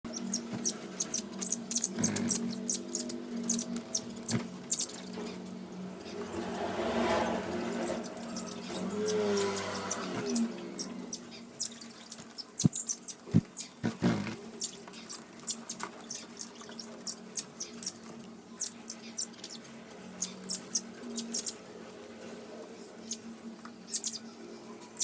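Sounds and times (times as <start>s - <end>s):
lovebirds chirping and squeaking: 0.1s - 6.4s, 7.5s - 21.7s, 22.9s - 25.0s.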